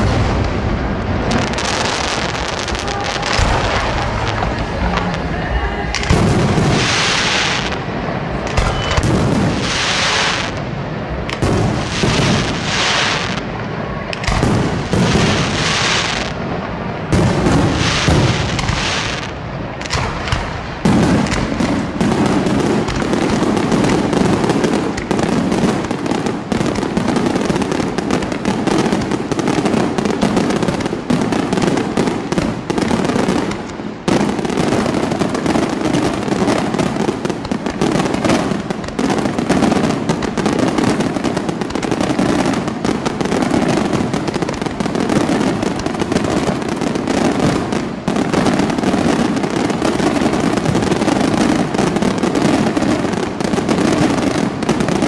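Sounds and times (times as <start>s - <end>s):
fireworks crackling and bursting: 0.0s - 55.0s.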